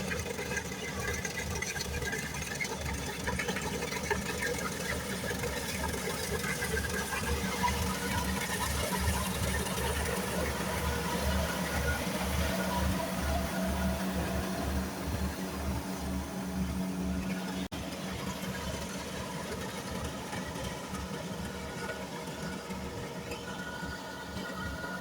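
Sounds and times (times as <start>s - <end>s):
combine harvester engine throbbing: 0.0s - 25.0s.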